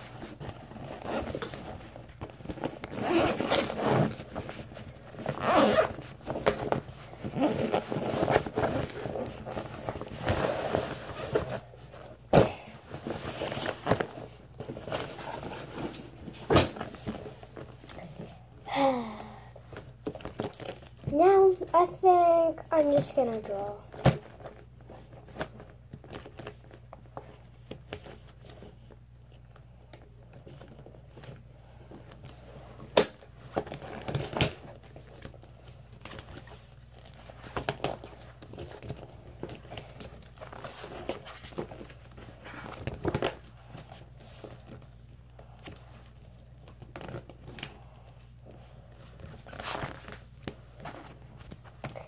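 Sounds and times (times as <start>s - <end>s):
plastic and paper rustling: 0.0s - 18.4s, 19.6s - 29.4s, 30.3s - 52.0s.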